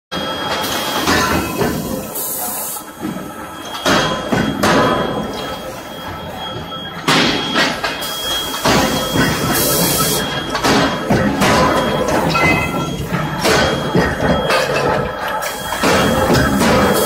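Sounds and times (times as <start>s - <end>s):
induction furnace high-pitched whine: 0.2s - 17.0s.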